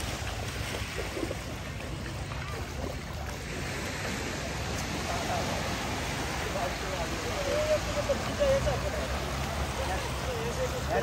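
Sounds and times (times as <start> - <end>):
waves washing on shore: 0.0 - 11.0
faint voices: 0.3 - 11.0.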